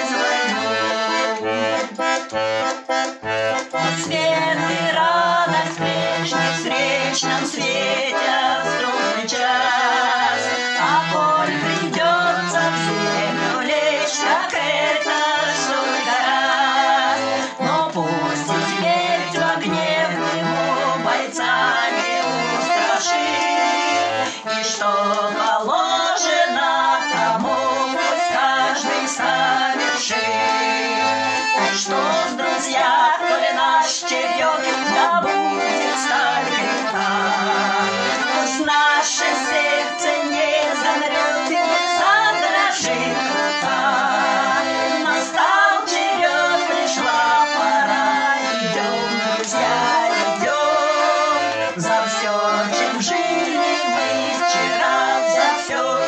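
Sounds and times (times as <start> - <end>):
button accordion playing: 0.0 - 56.0
women singing a slow waltz: 3.8 - 30.6, 31.6 - 56.0.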